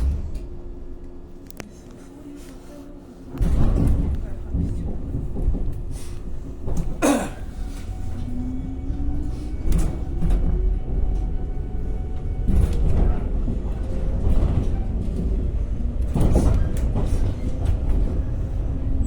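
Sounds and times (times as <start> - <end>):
electric train running rumble: 0.0 - 19.0.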